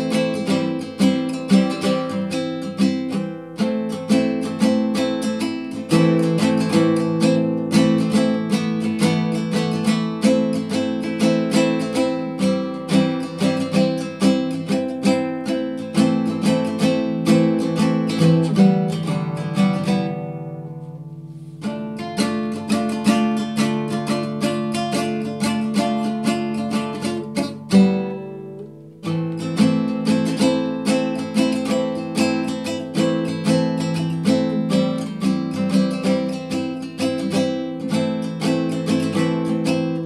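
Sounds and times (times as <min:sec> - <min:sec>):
nylon-string guitar strumming: 0:00.0 - 0:40.0.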